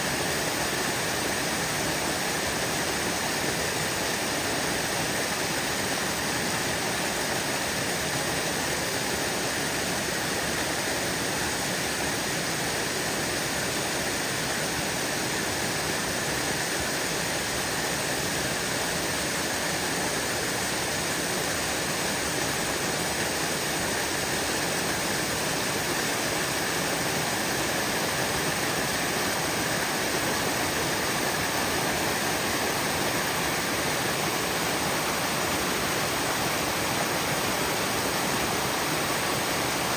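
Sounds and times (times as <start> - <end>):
brook water running: 0.0 - 39.9.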